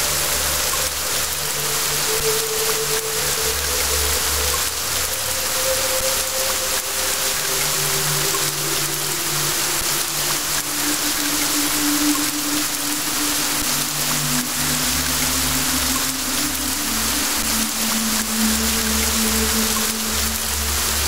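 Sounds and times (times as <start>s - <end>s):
rain hiss: 0.0s - 21.0s
slow soft music: 0.0s - 21.0s.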